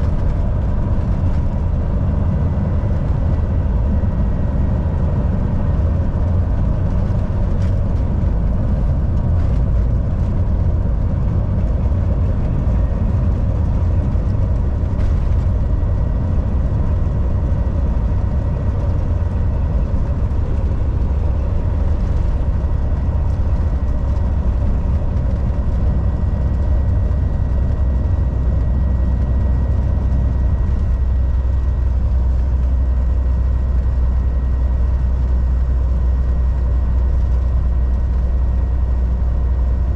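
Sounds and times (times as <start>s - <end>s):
faint steady whine: 0.0s - 39.9s
road and tyre noise: 0.0s - 39.9s
truck engine drone: 0.0s - 39.9s.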